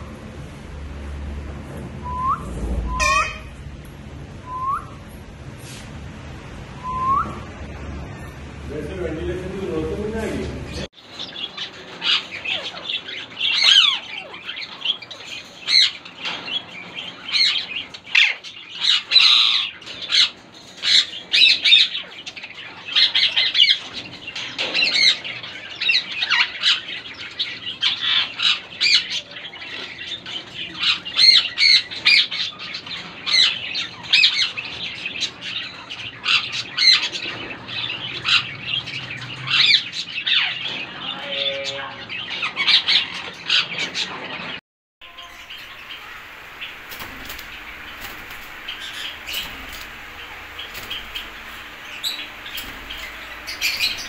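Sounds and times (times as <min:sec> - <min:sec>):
parakeet calling: 0:02.0 - 0:03.8, 0:11.0 - 0:44.4, 0:45.0 - 0:54.0.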